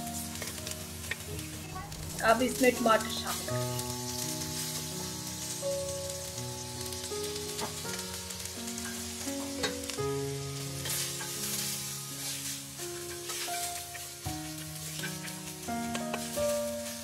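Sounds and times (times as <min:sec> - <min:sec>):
soft background music: 0:00.0 - 0:17.0
vegetables sizzling in oil: 0:00.0 - 0:17.0.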